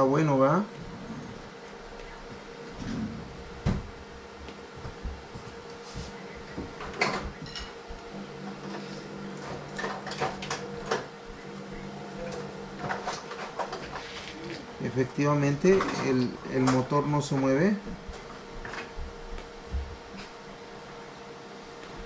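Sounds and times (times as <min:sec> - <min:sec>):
low hum: 0:00.0 - 0:22.0
steady hum: 0:00.0 - 0:22.0.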